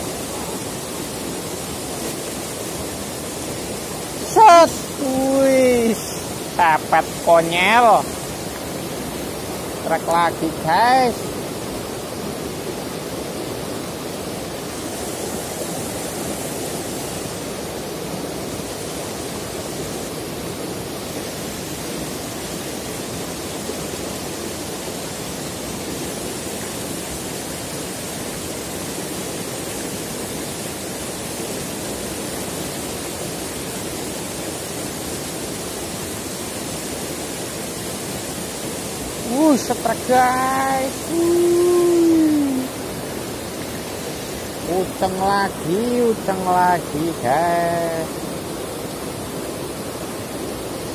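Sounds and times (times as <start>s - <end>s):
river rushing over stones: 0.0s - 50.9s.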